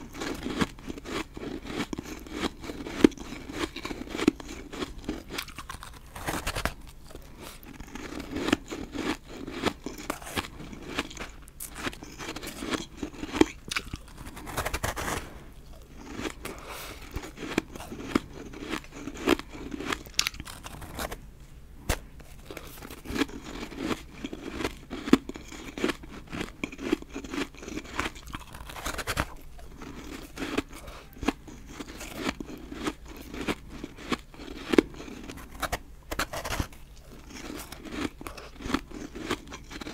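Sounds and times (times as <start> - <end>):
crunching ice chewing: 0.0 - 21.2, 22.2 - 39.9.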